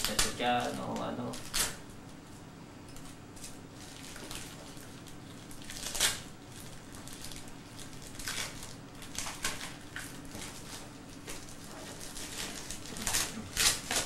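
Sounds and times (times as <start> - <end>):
wrapping paper crinkling: 0.0 - 2.0, 3.4 - 14.0.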